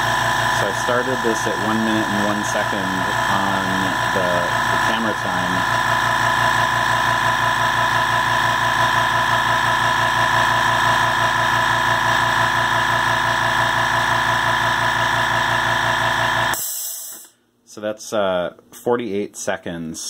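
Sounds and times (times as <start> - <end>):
air compressor running: 0.0 - 17.4.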